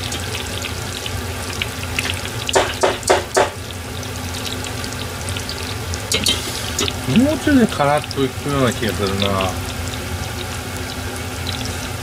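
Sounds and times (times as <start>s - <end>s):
chicken deep-frying in oil: 0.0s - 12.0s
oil popping: 0.0s - 12.0s.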